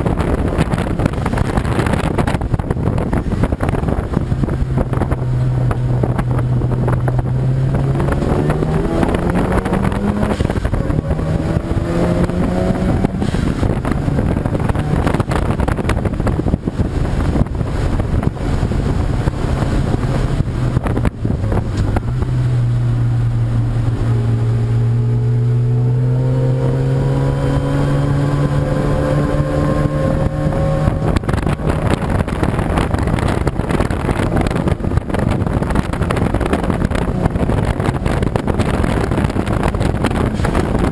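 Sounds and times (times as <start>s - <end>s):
race car engines accelerating: 0.0s - 40.9s
wind buffeting on microphone: 0.0s - 40.9s.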